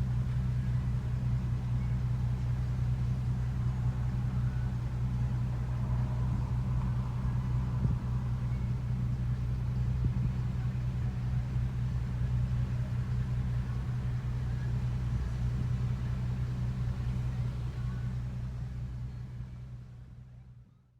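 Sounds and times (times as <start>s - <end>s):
car engine rumbling: 0.0s - 20.6s.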